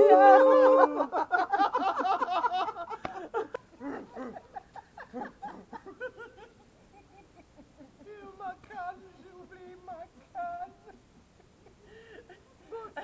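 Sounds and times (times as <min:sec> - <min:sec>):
people laughing and chattering: 0:00.0 - 0:13.0.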